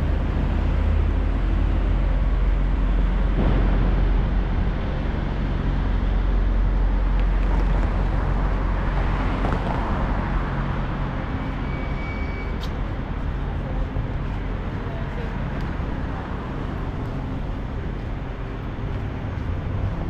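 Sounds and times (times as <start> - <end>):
low engine hum of traffic: 0.0 - 20.0
vehicles passing: 0.0 - 20.0.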